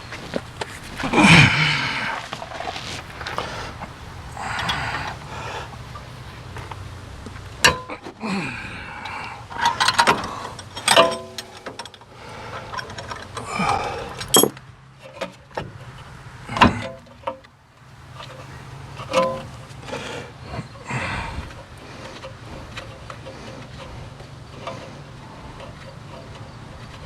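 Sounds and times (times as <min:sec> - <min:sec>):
metal tools clinking on brake caliper: 0:00.0 - 0:08.2, 0:09.0 - 0:17.5, 0:18.1 - 0:27.0.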